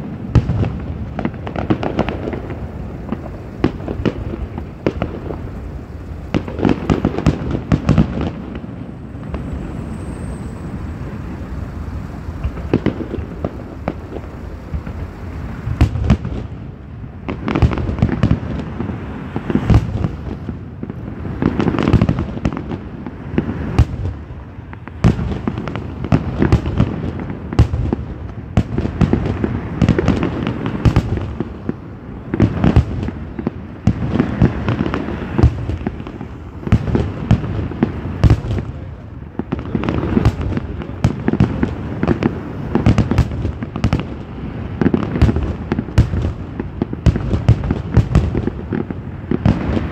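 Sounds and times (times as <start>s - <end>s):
fireworks bursting with crackling: 0.0s - 49.9s.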